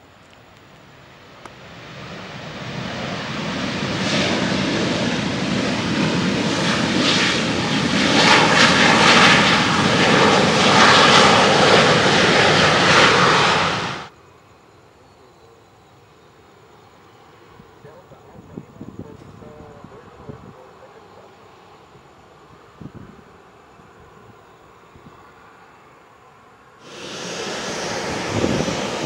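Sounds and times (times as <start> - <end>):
jet engines at high power: 0.0 - 14.2, 16.4 - 29.0.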